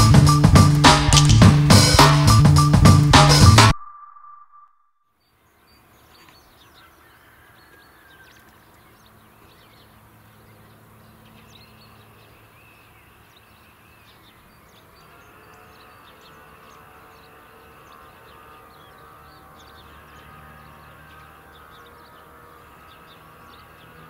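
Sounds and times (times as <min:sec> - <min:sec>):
small birds chirping: 0:03.7 - 0:24.0.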